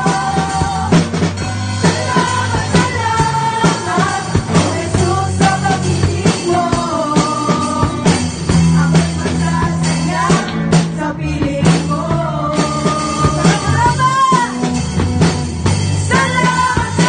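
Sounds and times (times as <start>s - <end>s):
woman singing: 0.0s - 15.2s, 16.1s - 17.0s
drum kit beat: 0.0s - 17.0s
electric bass: 0.0s - 17.0s.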